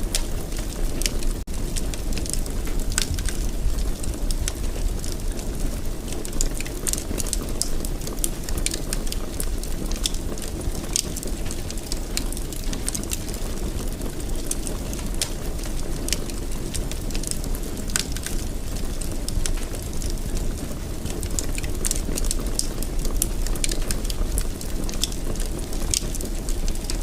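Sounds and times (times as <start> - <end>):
fire burning in fireplace: 0.0 - 27.0
fire crackling: 0.0 - 27.0.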